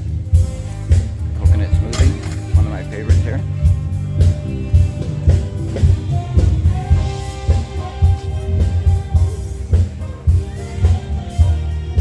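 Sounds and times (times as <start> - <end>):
held instrument notes: 1.4 - 12.0.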